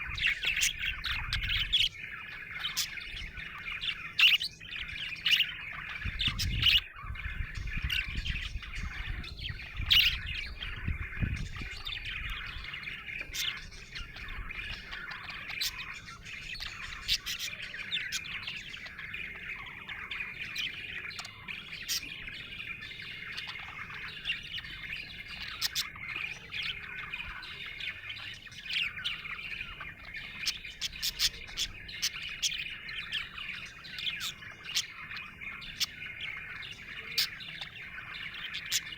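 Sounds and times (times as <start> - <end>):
budgerigar chirping and warbling: 0.0 - 38.9.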